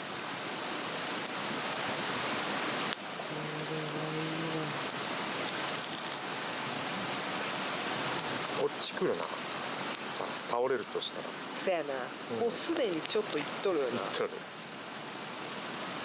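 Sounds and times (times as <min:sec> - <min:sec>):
log fire crackling and hissing: 0:00.0 - 0:16.0.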